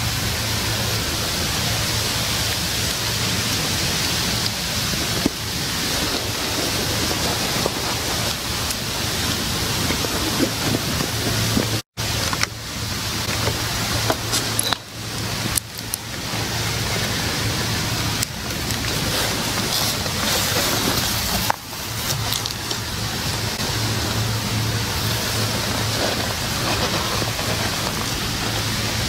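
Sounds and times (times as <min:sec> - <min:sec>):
wind rustling through trees: 0:00.0 - 0:29.0.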